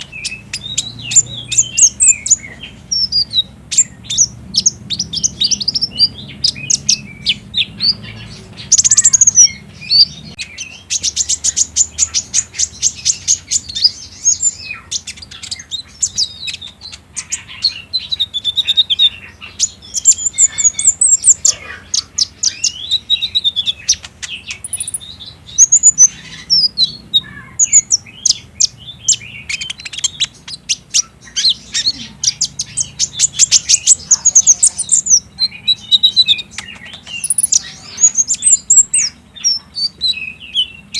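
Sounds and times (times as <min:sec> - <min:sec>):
bird song with rattling trills: 0:00.0 - 0:40.9.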